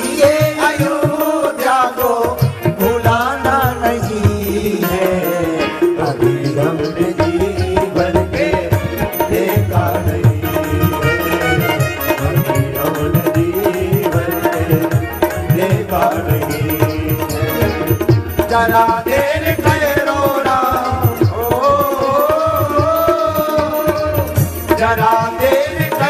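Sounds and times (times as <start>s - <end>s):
hand drum beat: 0.0s - 26.0s.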